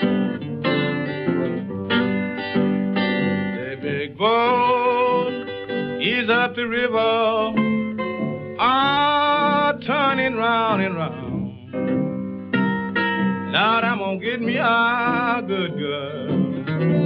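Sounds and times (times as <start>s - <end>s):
acoustic blues guitar: 0.0s - 17.0s
sliding guitar notes: 0.0s - 17.0s.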